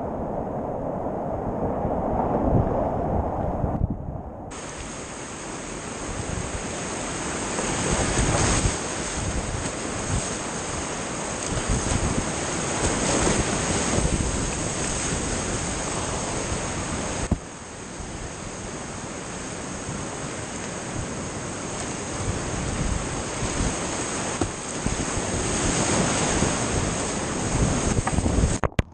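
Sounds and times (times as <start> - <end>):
whitewater rushing: 4.5 - 28.6.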